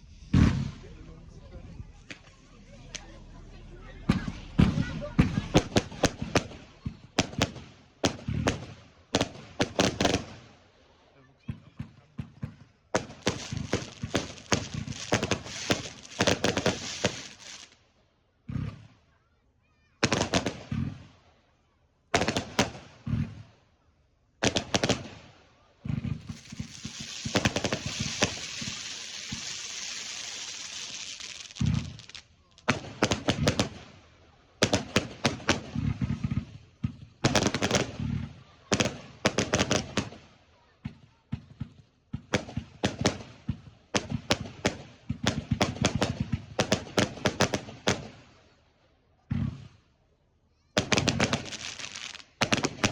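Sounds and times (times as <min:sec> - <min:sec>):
fireworks bangs and crackling: 0:00.0 - 0:10.6, 0:11.4 - 0:17.8, 0:18.4 - 0:19.0, 0:20.0 - 0:21.3, 0:22.1 - 0:23.6, 0:24.4 - 0:48.5, 0:49.2 - 0:49.8, 0:50.8 - 0:52.9.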